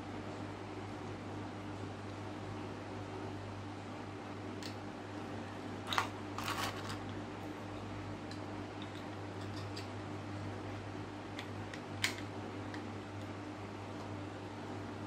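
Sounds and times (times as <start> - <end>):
cooling fan humming: 0.0 - 15.0.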